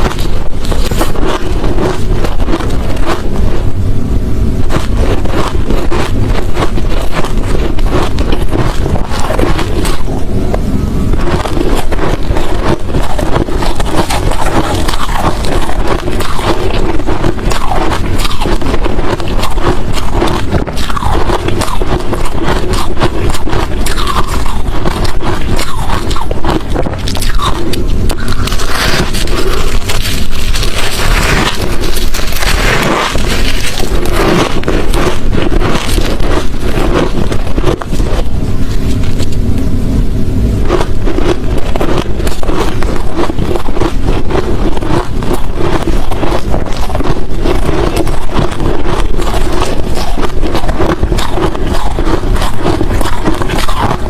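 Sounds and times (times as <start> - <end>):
person chewing crunching ice: 0.0 - 39.5, 40.6 - 54.0.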